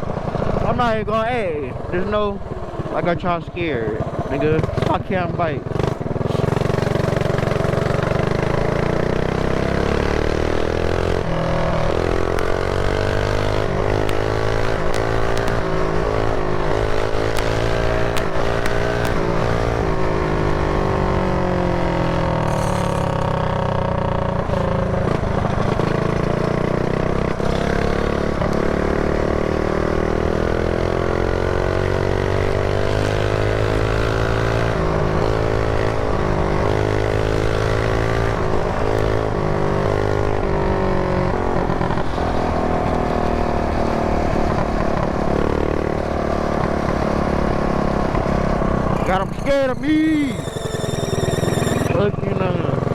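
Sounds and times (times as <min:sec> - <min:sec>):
small motorbike engine running: 0:02.8 - 0:52.9.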